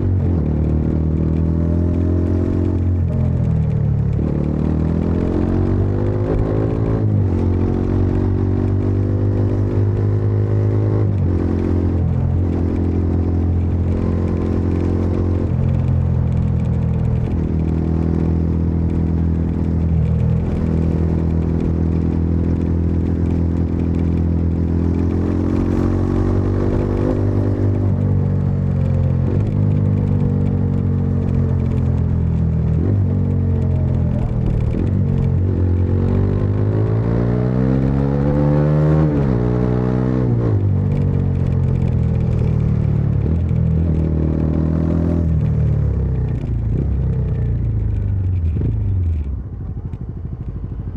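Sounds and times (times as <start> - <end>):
motorcycle engine and exhaust: 0.0 - 50.9.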